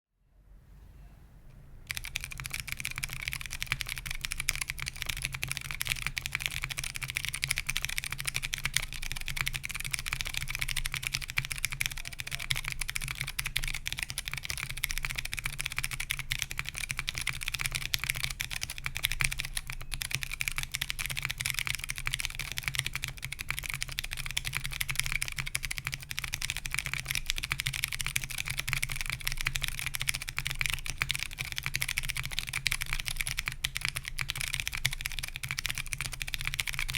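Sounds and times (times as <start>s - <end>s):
fast mechanical keyboard typing: 1.9s - 36.9s.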